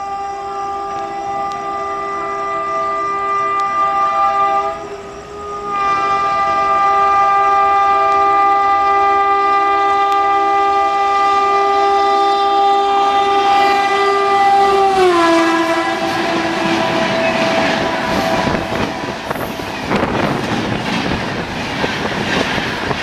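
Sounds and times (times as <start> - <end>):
train horn blowing: 0.0 - 20.4
rush of passing train: 0.0 - 23.0.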